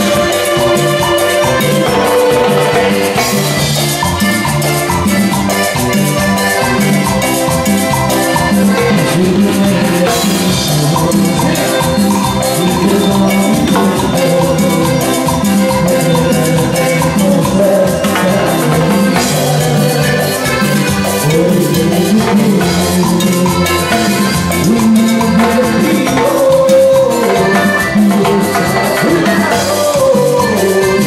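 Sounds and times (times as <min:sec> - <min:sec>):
accordion: 0:00.0 - 0:31.0
drums: 0:00.0 - 0:31.0
electronic keyboard: 0:00.0 - 0:31.0.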